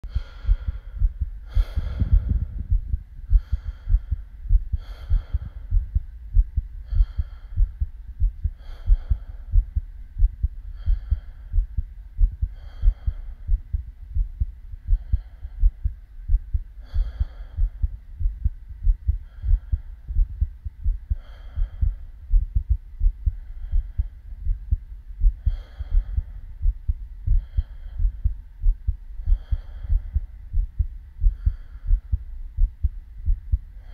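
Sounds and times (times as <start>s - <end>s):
heartbeat thumps: 0.0s - 33.9s.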